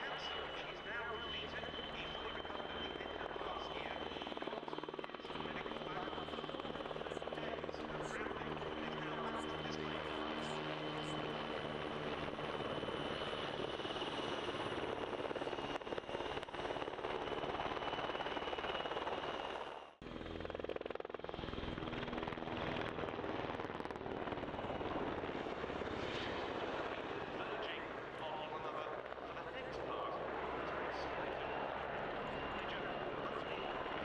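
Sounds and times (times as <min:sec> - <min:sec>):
helicopter rotor chop: 0:00.0 - 0:34.0.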